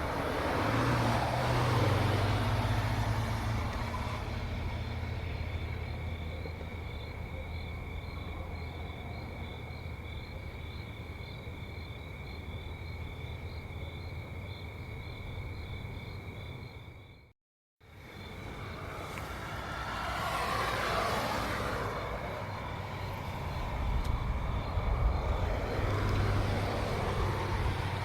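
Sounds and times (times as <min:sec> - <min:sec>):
crickets chirping: 0:00.0 - 0:17.3, 0:17.9 - 0:28.0.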